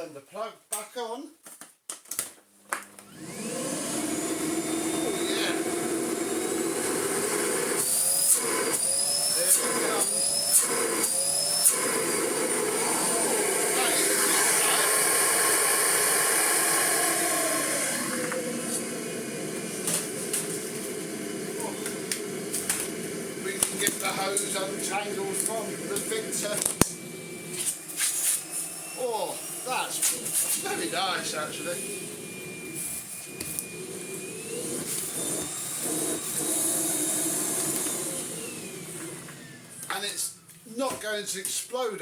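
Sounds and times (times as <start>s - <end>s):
vacuum cleaner motor whining: 3.0s - 40.2s.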